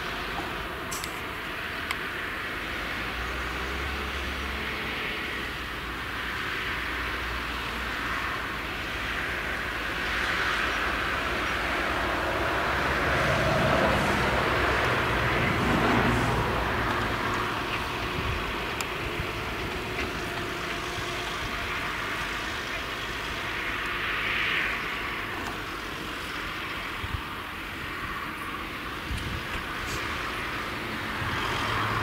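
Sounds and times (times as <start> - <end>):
forage harvester engine running: 0.0 - 32.0
tractor engine: 0.0 - 32.0.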